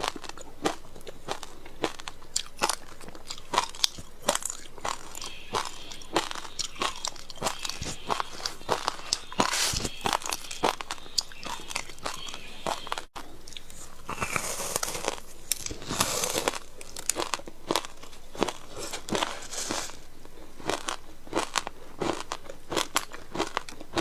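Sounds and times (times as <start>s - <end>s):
crunching and chewing ice: 0.0s - 24.0s.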